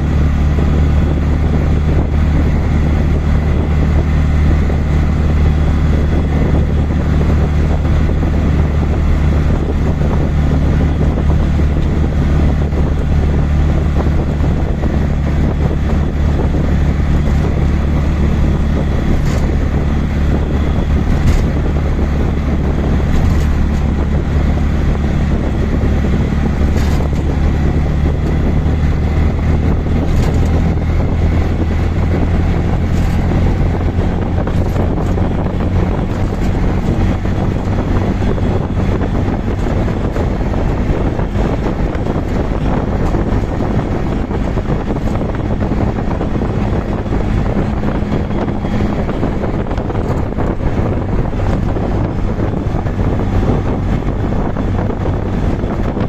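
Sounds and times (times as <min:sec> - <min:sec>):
auto-rickshaw engine droning: 0:00.0 - 0:56.0
road and wind noise: 0:00.0 - 0:56.0.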